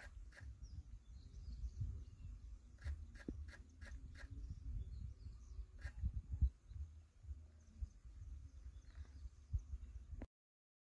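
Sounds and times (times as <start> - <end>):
low wind rumble: 0.0 - 10.3.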